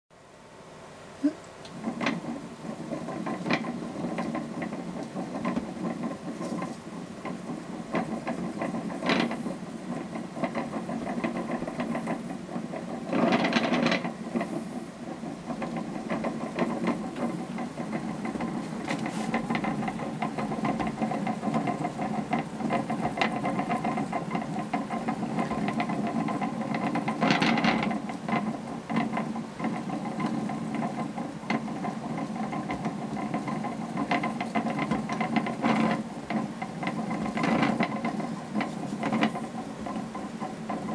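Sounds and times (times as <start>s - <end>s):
hand-cranked reel gear clatter: 1.8s - 40.9s.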